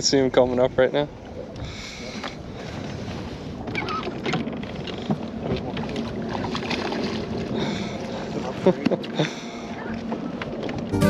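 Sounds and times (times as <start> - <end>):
wind: 0.0 - 11.0
water lapping against boat: 0.2 - 10.9.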